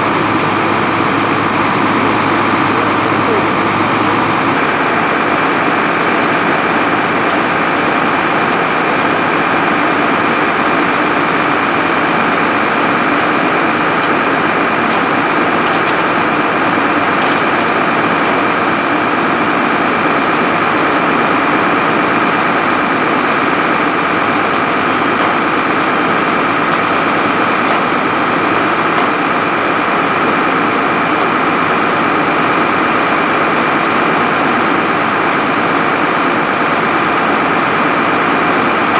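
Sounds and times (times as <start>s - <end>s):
fire engine drone: 0.0s - 38.9s.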